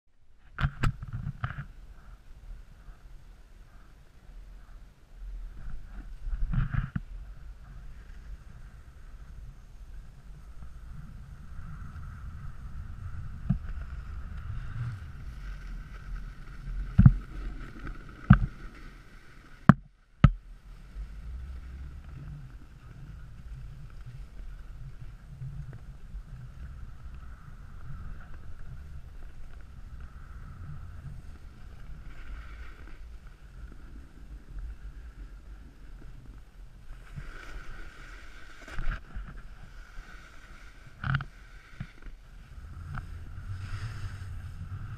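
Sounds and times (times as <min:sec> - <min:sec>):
snowboard scraping over snow: 0:05.4 - 0:19.7, 0:20.6 - 0:44.9.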